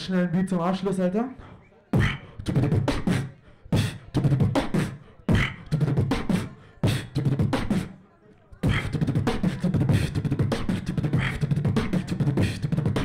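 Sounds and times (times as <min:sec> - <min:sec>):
person beatboxing into microphone: 0:00.0 - 0:08.0, 0:08.6 - 0:13.0.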